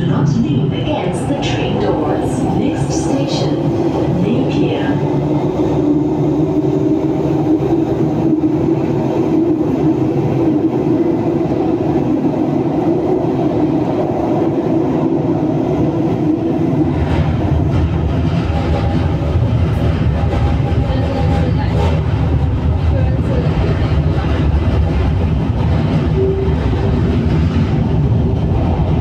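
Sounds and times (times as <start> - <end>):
metro train rumbling in tunnel: 0.0 - 29.0.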